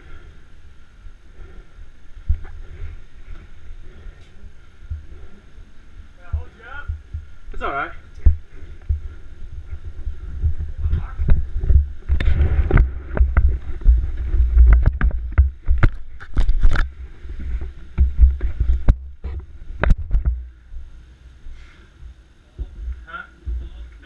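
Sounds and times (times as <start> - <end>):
microphone handling rumble: 1.3 - 21.0.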